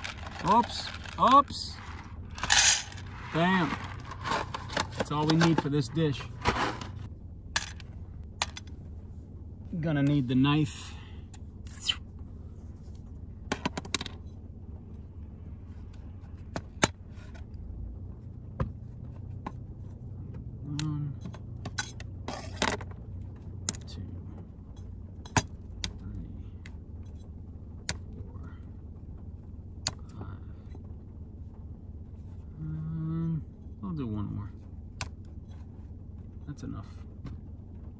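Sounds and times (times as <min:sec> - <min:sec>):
steady low rumble: 0:00.0 - 0:37.9.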